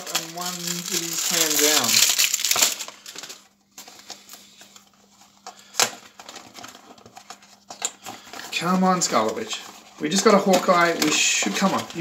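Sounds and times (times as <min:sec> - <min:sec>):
packaging rustling and clicking: 0:00.0 - 0:12.0.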